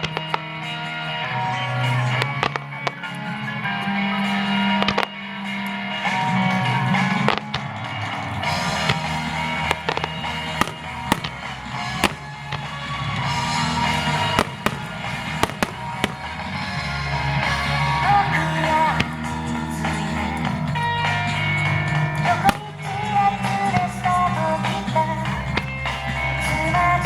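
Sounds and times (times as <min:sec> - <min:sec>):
fireworks bursts cracking: 0:00.0 - 0:27.0
pop-rock music with guitar: 0:00.0 - 0:27.0.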